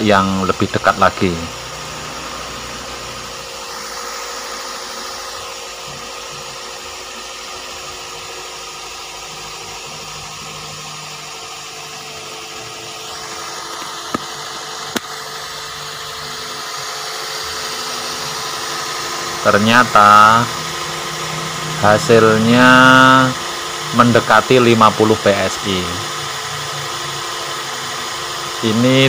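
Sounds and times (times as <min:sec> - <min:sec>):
car engine idling: 0:00.2 - 0:11.2, 0:12.6 - 0:29.0.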